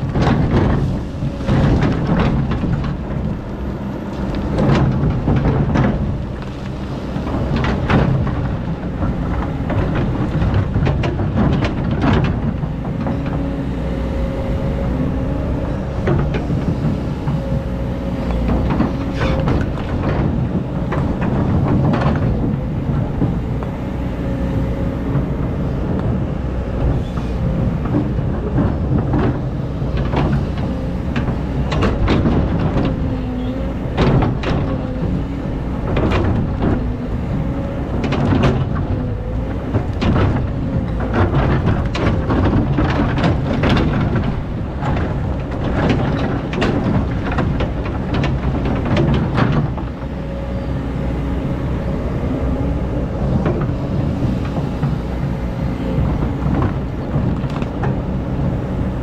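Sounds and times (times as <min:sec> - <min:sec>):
excavator diesel engine whining: 0:00.0 - 0:59.0.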